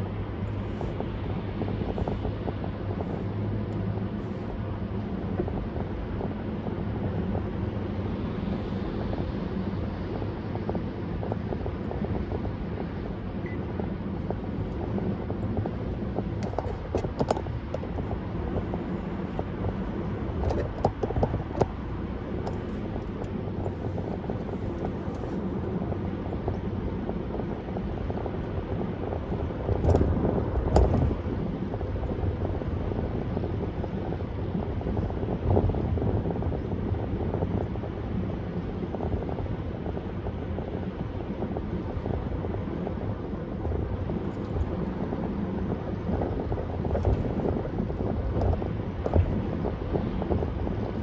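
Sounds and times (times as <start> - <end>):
car driving rumble: 0.0 - 51.0.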